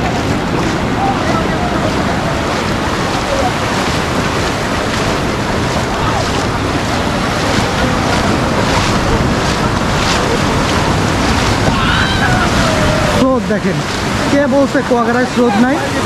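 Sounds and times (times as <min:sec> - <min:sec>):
sea surf breaking: 0:00.0 - 0:16.0
wind noise on microphone: 0:00.0 - 0:16.0.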